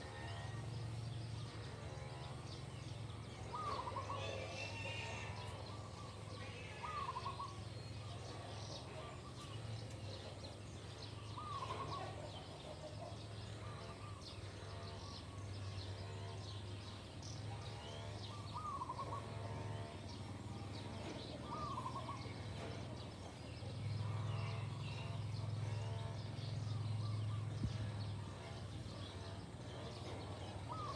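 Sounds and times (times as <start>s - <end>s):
birds chirping and calling: 0.0s - 30.9s.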